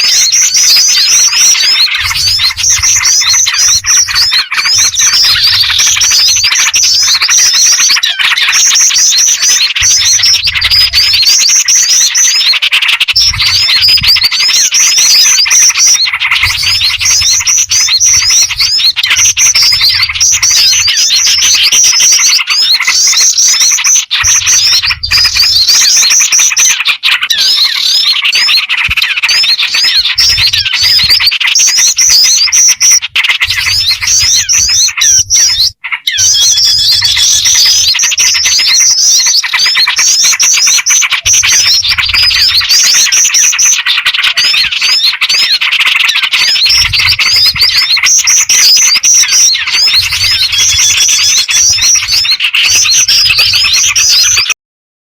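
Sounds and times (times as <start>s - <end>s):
chorus of small birds chirping: 0.0s - 54.6s.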